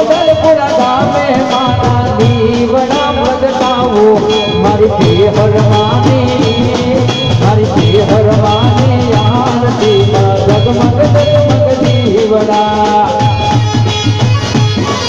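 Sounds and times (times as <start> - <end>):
drums fast beat: 0.0 - 15.0.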